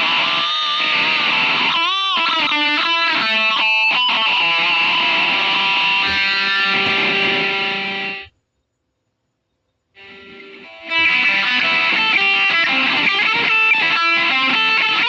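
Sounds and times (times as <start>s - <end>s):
distorted electric guitar lead: 0.0s - 8.3s, 10.0s - 15.0s.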